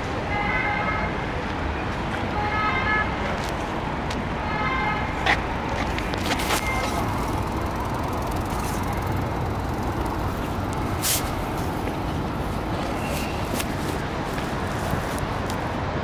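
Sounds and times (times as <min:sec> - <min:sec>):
road traffic rumble: 0:01.0 - 0:16.0.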